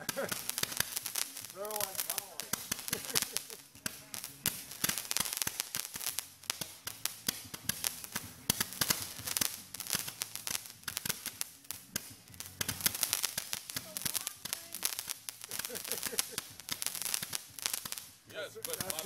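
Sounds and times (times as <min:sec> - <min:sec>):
fireworks popping and crackling: 0:00.0 - 0:19.0.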